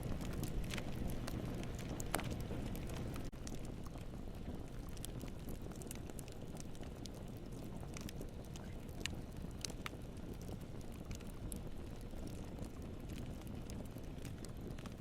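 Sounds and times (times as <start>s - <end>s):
low rush of flames: 0.0s - 15.0s
wood crackles and pops: 0.0s - 15.0s.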